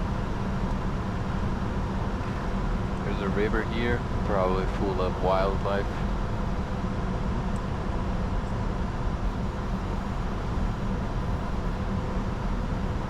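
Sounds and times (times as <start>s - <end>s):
faint steady hum tones: 0.0s - 13.0s
jet cockpit airflow and engine noise: 0.0s - 13.0s.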